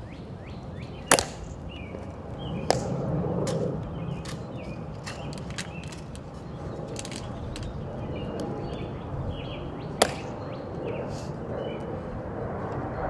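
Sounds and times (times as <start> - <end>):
small birds chirping: 0.0 - 3.1, 3.7 - 13.0
outdoor background noise: 0.0 - 13.0.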